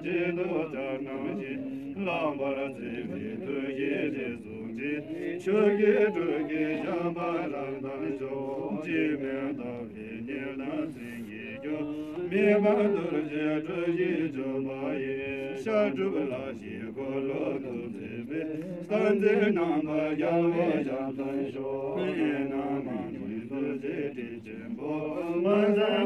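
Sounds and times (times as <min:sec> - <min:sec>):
person chanting prayers: 0:00.0 - 0:26.0.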